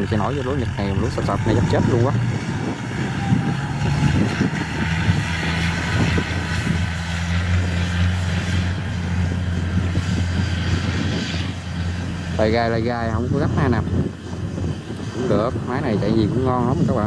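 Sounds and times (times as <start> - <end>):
diesel engine droning: 0.0 - 17.0
threshing machinery rushing: 0.0 - 17.0.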